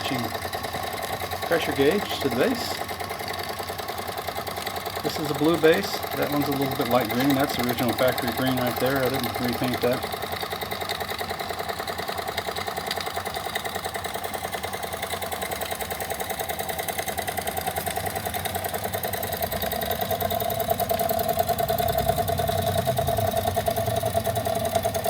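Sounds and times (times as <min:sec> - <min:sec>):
toy steam engines running: 0:00.0 - 0:25.0.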